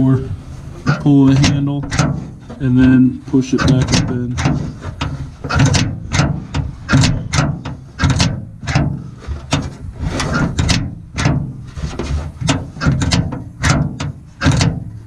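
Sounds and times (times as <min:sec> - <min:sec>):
truck door latch clacking: 0:00.0 - 0:15.0.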